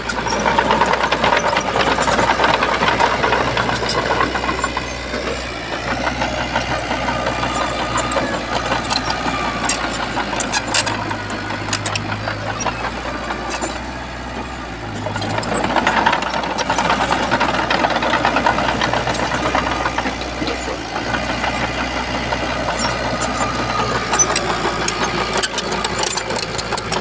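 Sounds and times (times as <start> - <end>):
heavy diesel engine running: 0.0 - 27.0
metallic knocks and clatter: 0.0 - 27.0.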